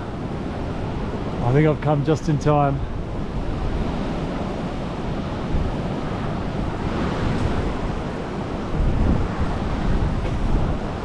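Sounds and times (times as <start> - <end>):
rushing river: 0.0 - 11.0
wind buffeting microphone: 0.0 - 11.0.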